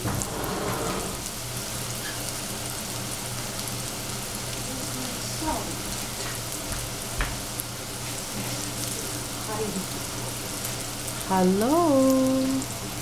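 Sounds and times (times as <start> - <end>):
mushrooms sizzling in hot oil: 0.0 - 13.0.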